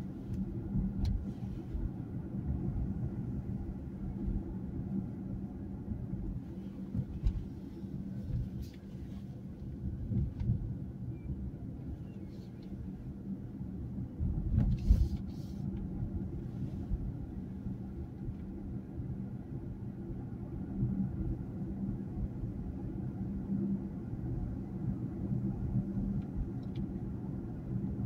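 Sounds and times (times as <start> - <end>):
car cabin road noise: 0.0 - 28.0.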